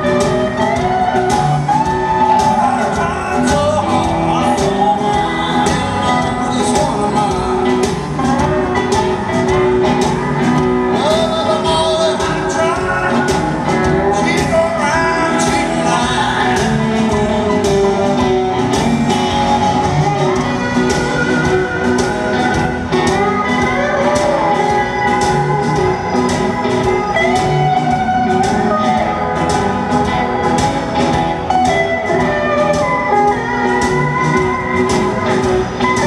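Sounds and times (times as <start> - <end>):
bass: 0.0 - 36.0
drums: 0.0 - 36.0
lap steel guitar sliding lines: 0.0 - 36.0.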